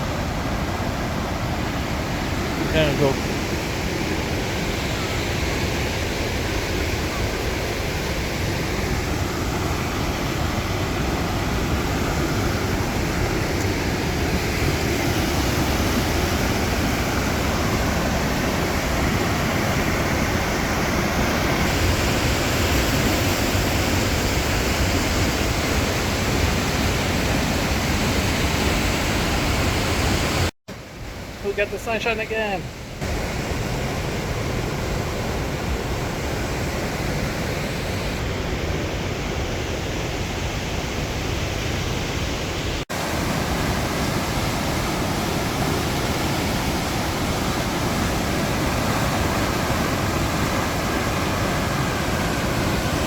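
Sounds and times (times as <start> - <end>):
roar of rushing whitewater: 0.0 - 53.0.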